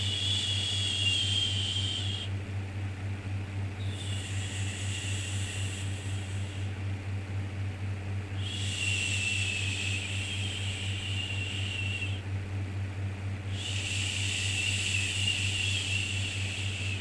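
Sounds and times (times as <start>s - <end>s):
white noise with low hum: 0.0s - 17.0s.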